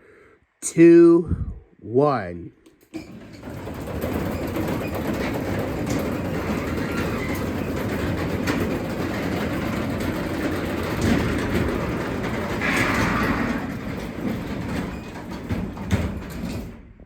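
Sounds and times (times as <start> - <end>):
garage door opener rumbling: 2.8 - 17.0.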